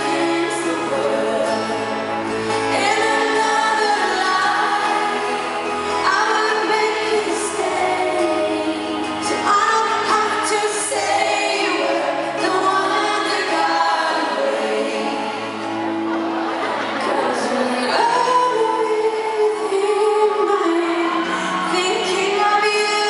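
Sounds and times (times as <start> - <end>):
woman singing lead: 0.0 - 15.7, 16.8 - 23.0
acoustic guitar: 0.0 - 23.0
women singing backing harmonies: 0.0 - 23.0.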